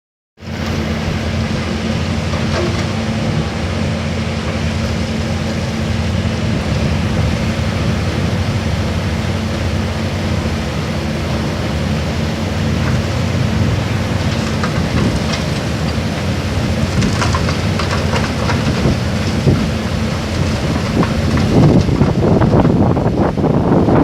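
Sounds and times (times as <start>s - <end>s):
excavator diesel engine droning: 0.4s - 24.0s.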